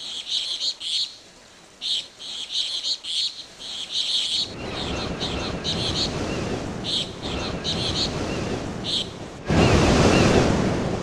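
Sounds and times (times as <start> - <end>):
birds chirping: 0.0 - 10.6.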